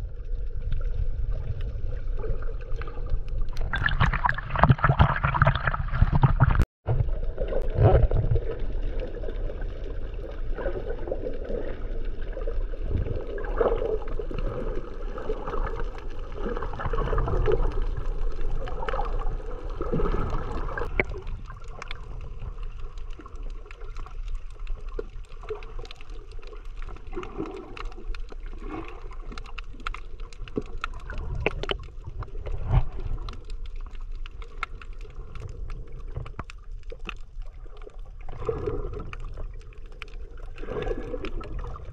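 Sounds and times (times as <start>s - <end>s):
crackle of small clicks: 0.0s - 4.7s, 5.4s - 41.9s
underwater water sloshing: 0.0s - 41.9s.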